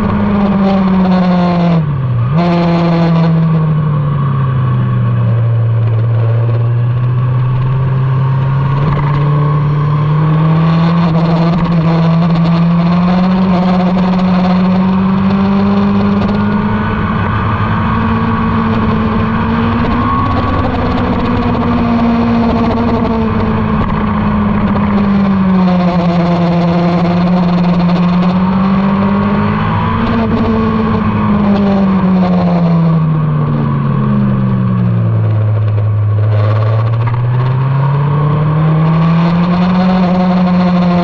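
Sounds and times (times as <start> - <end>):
motorcycle engine under load: 0.0 - 41.0.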